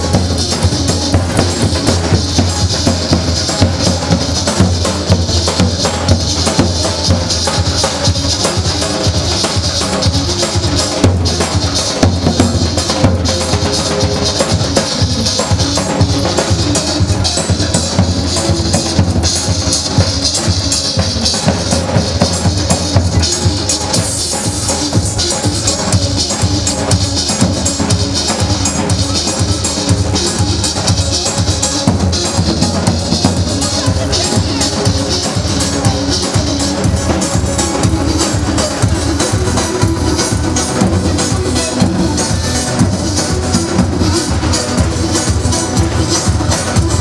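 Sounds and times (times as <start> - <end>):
large drum beaten with stick: 0.0 - 47.0.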